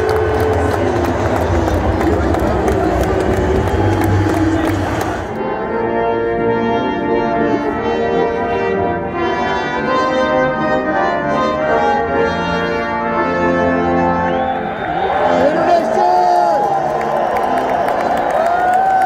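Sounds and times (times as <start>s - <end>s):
brass ensemble playing chords: 0.0s - 16.2s.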